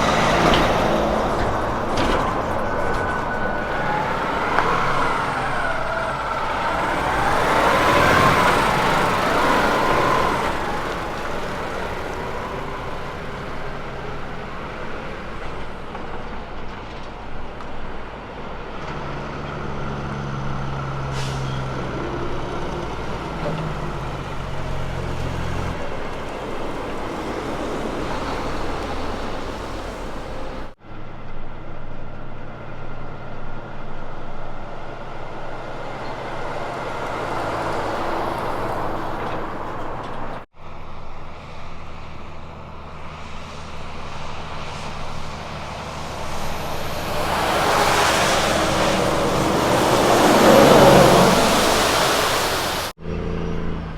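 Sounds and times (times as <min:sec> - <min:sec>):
diesel truck engine pulling: 0:00.0 - 0:53.9
truck passing by: 0:00.0 - 0:53.9.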